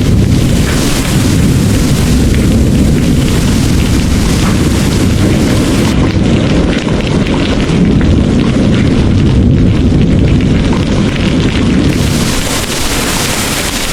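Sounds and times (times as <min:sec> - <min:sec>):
heavy rain pouring: 0:00.0 - 0:13.9
rolling thunder: 0:00.0 - 0:13.9.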